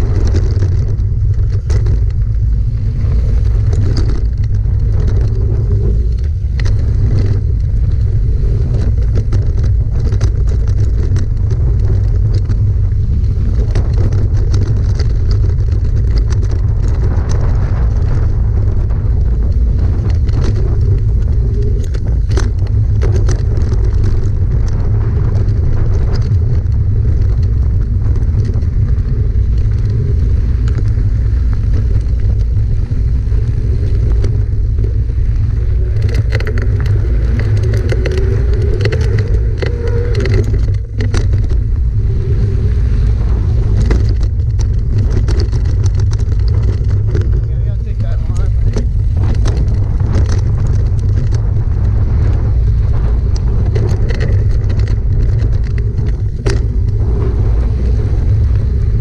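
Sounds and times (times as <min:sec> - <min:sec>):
bike rattling and knocking: 0:00.0 - 0:59.0
tyres rolling over gravel: 0:00.0 - 0:59.0
wind on microphone: 0:00.0 - 0:59.0.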